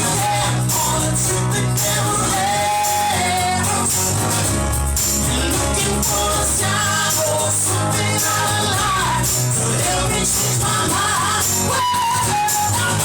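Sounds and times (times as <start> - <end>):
person singing: 0.0 - 4.4, 5.0 - 13.0
live rock band playing: 0.0 - 13.0.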